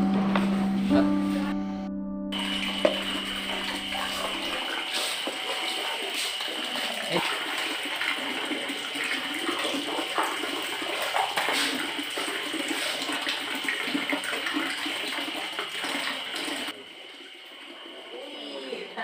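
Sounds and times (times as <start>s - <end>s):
water running and splashing: 2.4s - 19.0s.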